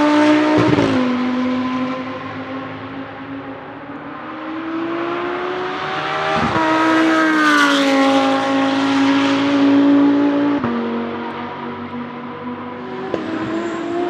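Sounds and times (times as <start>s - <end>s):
race car accelerating past: 0.0s - 14.0s.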